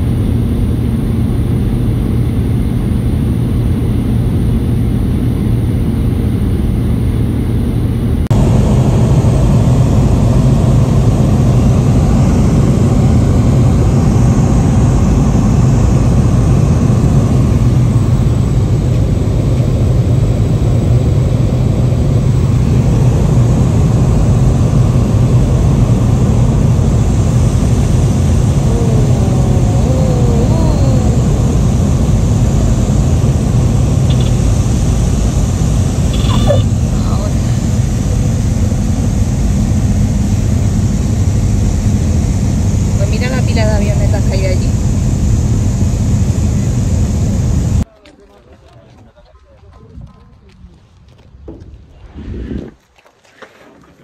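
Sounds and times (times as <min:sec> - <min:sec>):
propeller engine droning: 0:00.0 - 0:47.9.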